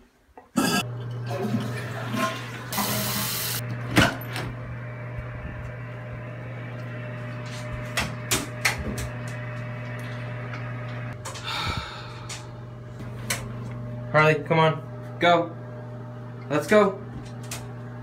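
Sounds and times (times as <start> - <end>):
steady low hum: 3.6 - 18.0.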